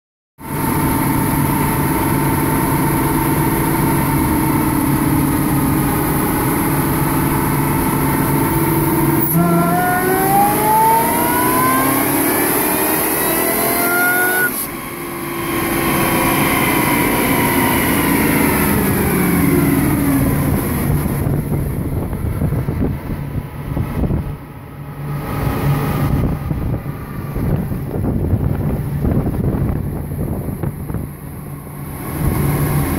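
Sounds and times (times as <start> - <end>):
car engine revving and idling: 0.4 - 32.9.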